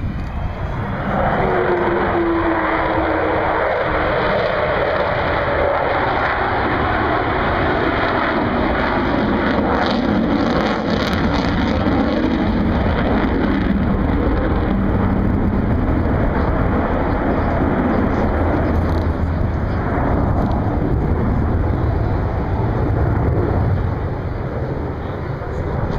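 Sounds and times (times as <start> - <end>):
jet aircraft rumble: 0.0 - 25.9.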